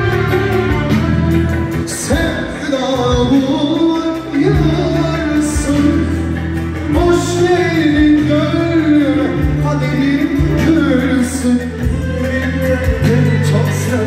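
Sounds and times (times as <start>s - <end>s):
held bass notes: 0.0s - 14.0s
wavering lead melody: 0.0s - 14.0s.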